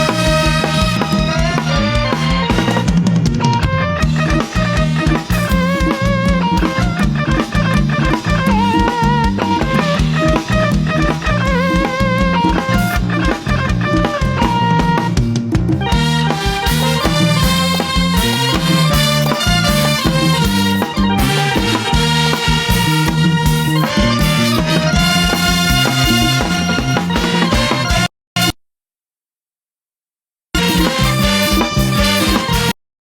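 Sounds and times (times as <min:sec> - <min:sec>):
brass band dance music: 0:00.0 - 0:15.2, 0:15.8 - 0:28.6, 0:30.6 - 0:32.8
horn and saxophone melody: 0:00.0 - 0:15.2, 0:15.8 - 0:28.6, 0:30.6 - 0:32.8
drum kit beat: 0:00.0 - 0:28.6, 0:30.6 - 0:32.8.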